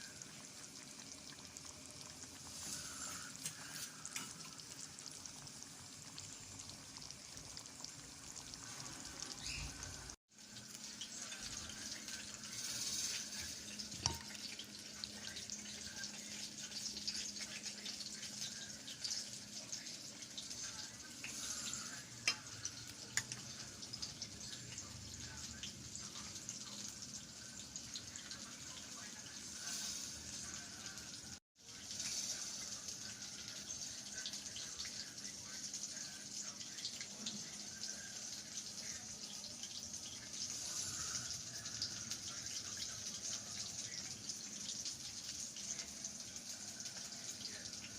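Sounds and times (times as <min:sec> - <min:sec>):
food sizzling in a pan: 0:00.0 - 0:47.9.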